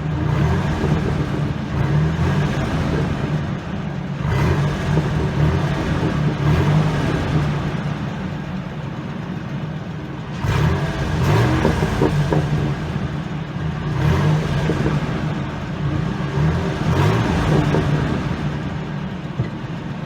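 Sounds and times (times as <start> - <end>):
truck exhaust drone: 0.0 - 20.0.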